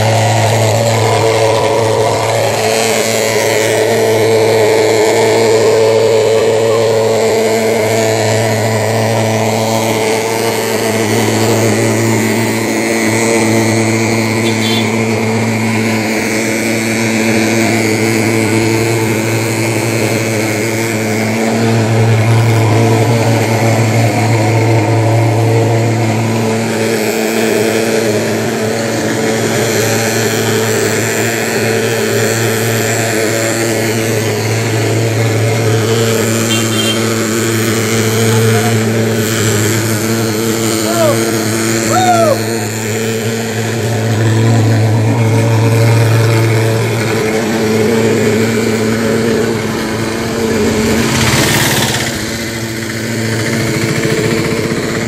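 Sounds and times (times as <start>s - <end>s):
fogging machine buzzing drone: 0.0s - 55.0s.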